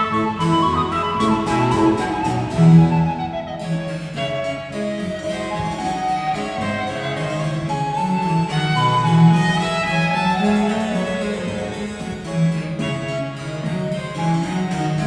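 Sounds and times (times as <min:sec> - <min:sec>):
harpsichord: 0:00.0 - 0:15.0
recorder melody: 0:00.0 - 0:15.0
viola da gamba bass line: 0:00.0 - 0:15.0
violin melody: 0:00.0 - 0:15.0.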